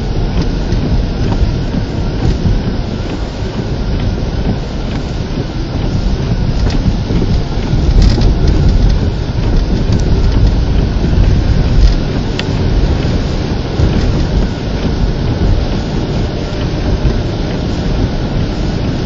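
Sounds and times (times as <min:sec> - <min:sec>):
deep rumble: 0:00.0 - 0:19.0
heavy rain: 0:00.0 - 0:19.0
raindrops ticking: 0:00.0 - 0:19.0
wind noise: 0:00.0 - 0:19.0.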